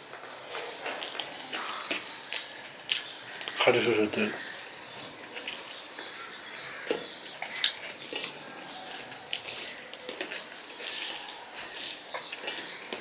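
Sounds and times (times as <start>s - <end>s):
soft squishing of rice: 0.0s - 13.0s.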